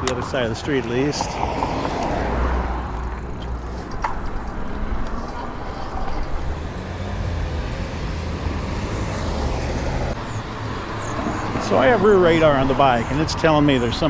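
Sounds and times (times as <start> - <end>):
passing cars rumbling: 0.0 - 14.0.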